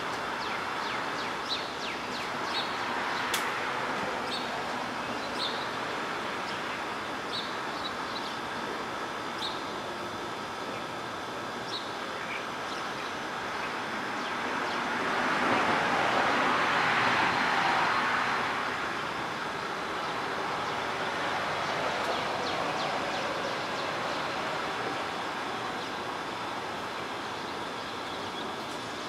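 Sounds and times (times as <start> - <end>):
distant road traffic: 0.0 - 29.0.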